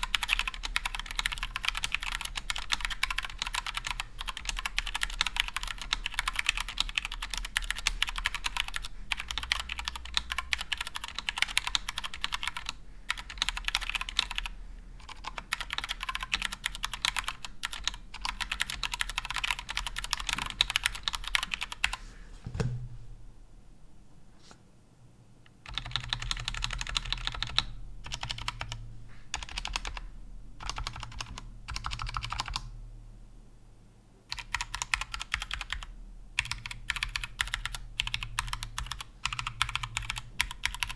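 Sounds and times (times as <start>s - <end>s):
mechanical keyboard typing: 0.0s - 22.0s, 25.6s - 30.0s, 30.6s - 32.7s, 34.3s - 40.9s.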